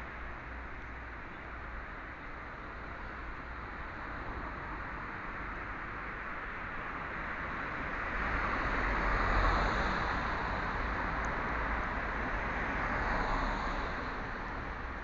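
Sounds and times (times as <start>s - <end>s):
cars passing: 2.8s - 15.0s.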